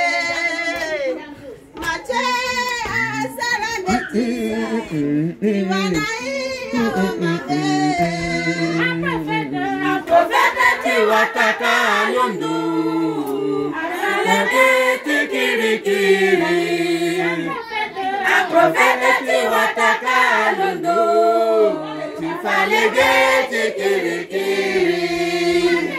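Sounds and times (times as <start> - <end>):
women singing unaccompanied: 0.0 - 25.9.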